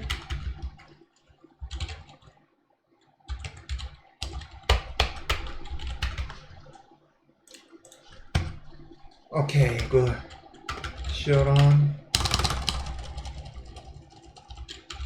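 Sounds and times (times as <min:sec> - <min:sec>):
keyboard typing: 0:00.0 - 0:02.4, 0:03.3 - 0:06.8, 0:07.5 - 0:15.0.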